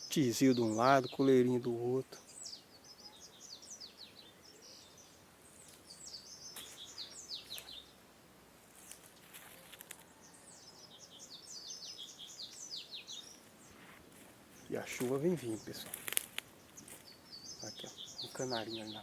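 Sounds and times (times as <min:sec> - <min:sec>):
bird chirping song: 0:00.0 - 0:08.1, 0:08.7 - 0:19.0.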